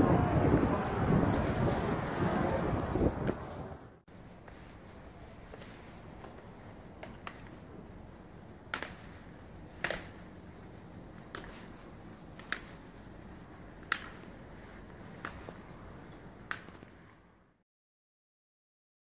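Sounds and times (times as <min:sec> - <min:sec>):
low background noise: 0:00.0 - 0:17.6.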